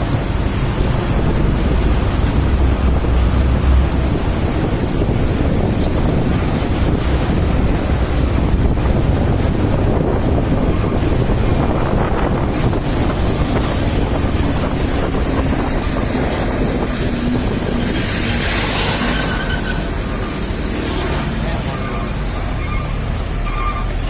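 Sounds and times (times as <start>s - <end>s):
wind buffeting microphone: 0.0s - 23.2s
heavy road traffic rumble: 0.0s - 24.0s.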